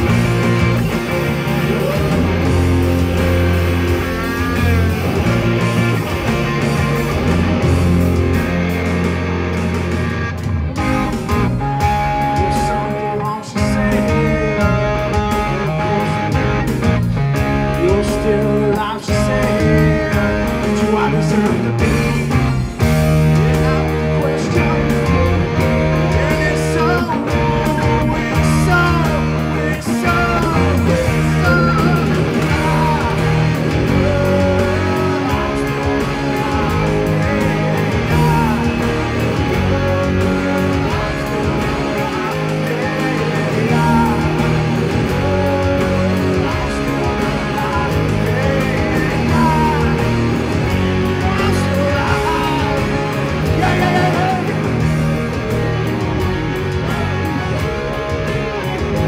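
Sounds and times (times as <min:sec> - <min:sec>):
man singing: 0:00.0 - 0:08.0, 0:11.0 - 0:55.8, 0:56.6 - 0:59.0
bass and drums: 0:00.0 - 0:59.0
distorted electric guitars: 0:00.0 - 0:59.0.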